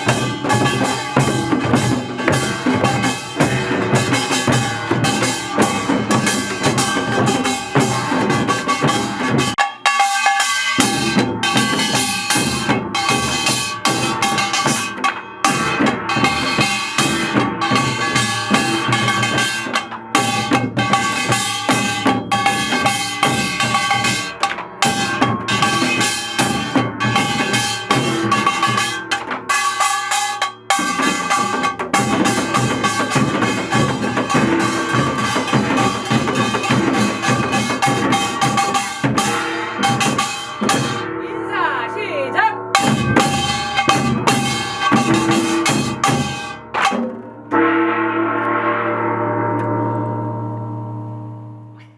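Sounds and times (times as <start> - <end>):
music with drum-kit beat: 0.0 - 41.0, 42.8 - 47.1.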